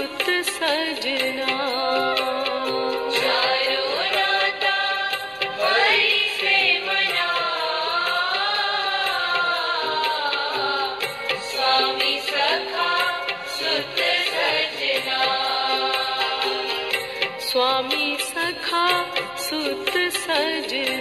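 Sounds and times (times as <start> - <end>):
gliding devotional melody: 0.0 - 21.0.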